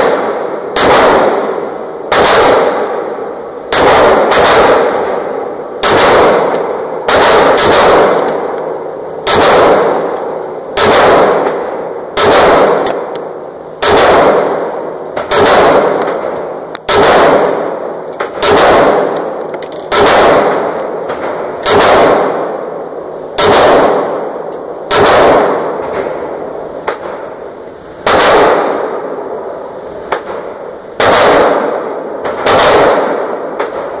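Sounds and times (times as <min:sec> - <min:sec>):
pistol shots ringing indoors: 0:00.0 - 0:34.0.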